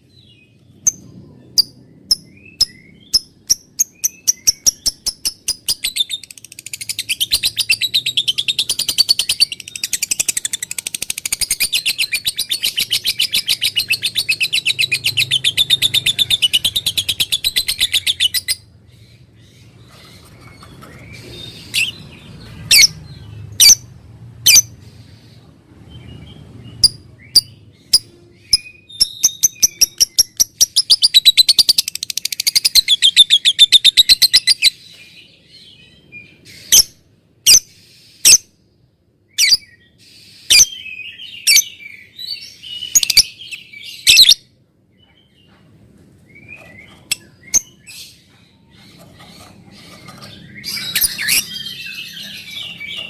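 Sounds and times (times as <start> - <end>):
lovebird chirping and trilling: 0.2 - 24.7, 25.9 - 34.9, 35.7 - 38.5, 39.3 - 45.2, 46.3 - 53.0.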